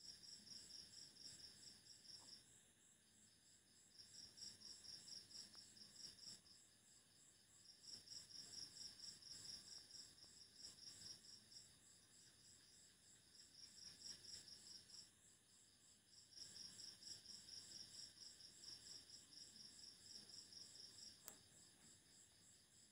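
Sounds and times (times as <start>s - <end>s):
insect chirping trill: 0.0s - 22.9s.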